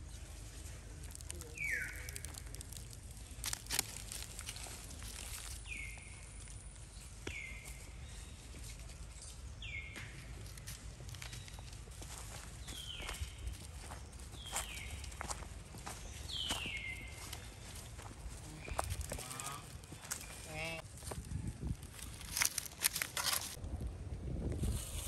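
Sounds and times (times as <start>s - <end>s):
footsteps on dry leaves: 0.0s - 23.6s.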